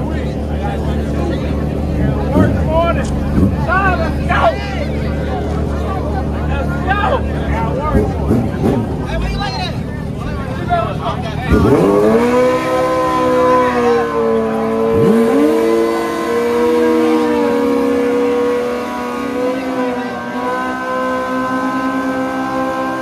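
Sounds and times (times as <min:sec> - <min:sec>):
motorcycle engine at high revs: 0:00.0 - 0:06.5, 0:07.3 - 0:09.2, 0:11.4 - 0:23.0
motorcycle engine revving up: 0:00.0 - 0:09.4, 0:10.5 - 0:23.0.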